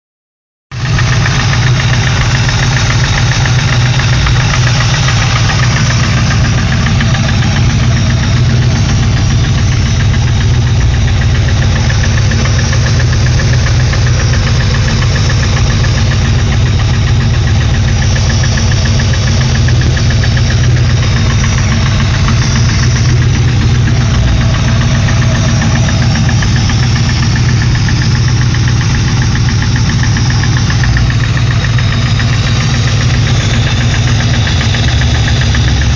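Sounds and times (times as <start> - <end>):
engine running: 0.7 - 35.9
fast engine tapping: 0.7 - 35.9.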